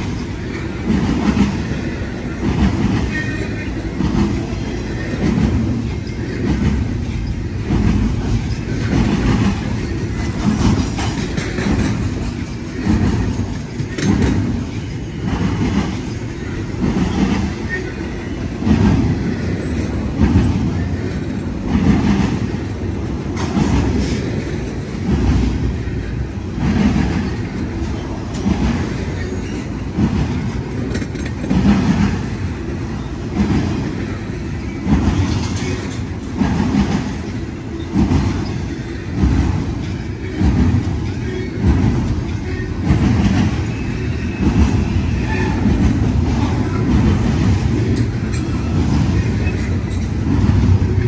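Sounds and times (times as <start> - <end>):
freight train rumbling past: 0.0 - 51.0
wheels clattering on rails: 0.0 - 51.0.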